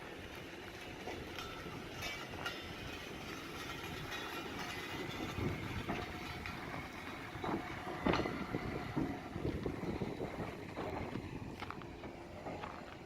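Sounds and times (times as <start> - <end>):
train clanks: 0.0 - 13.0
train low rumble: 0.0 - 13.0.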